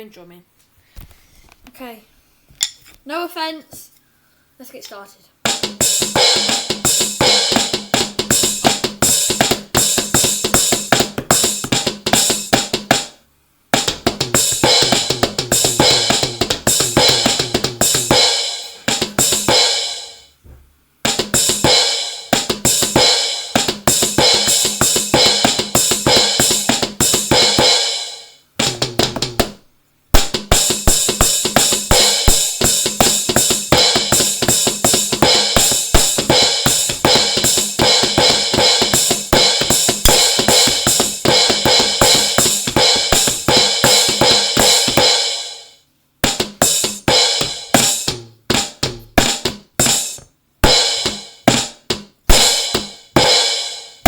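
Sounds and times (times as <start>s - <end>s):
electronic drum kit playing: 5.4s - 54.0s.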